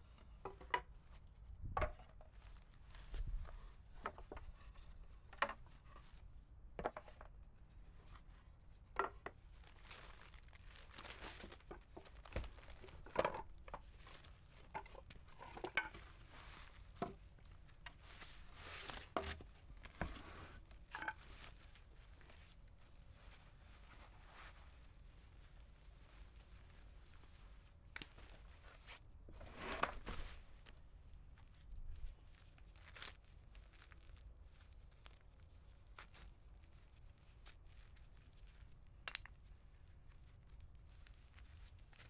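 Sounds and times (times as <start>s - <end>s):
foam wrap rustling and crinkling: 0.2s - 6.3s, 7.0s - 42.0s.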